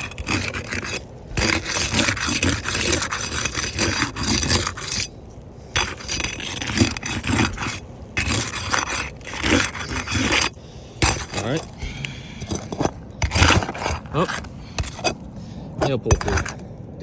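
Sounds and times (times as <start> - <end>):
metal bar scraping shingles: 0.0 - 16.6.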